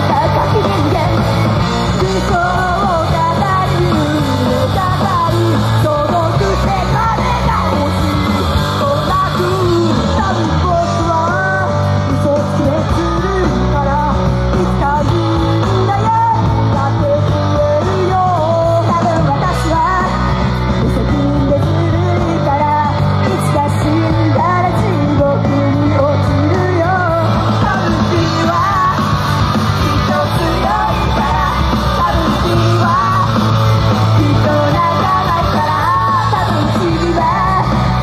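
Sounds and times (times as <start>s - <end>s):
women singing: 0.0s - 20.2s, 20.9s - 38.0s
rock music: 0.0s - 38.0s.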